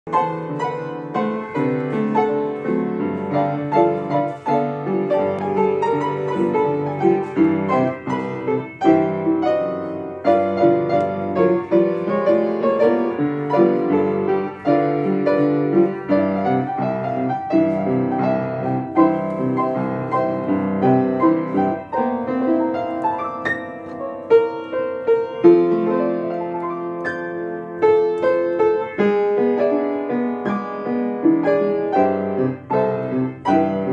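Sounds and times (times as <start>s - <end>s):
piano melody over chords: 0.0s - 33.9s.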